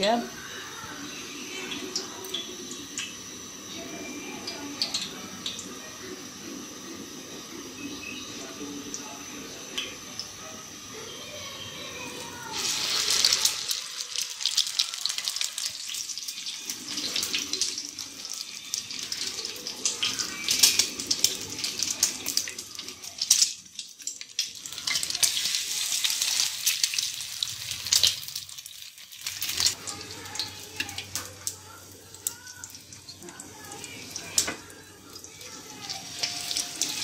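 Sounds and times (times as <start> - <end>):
bread frying in hot oil: 0.0 - 37.0.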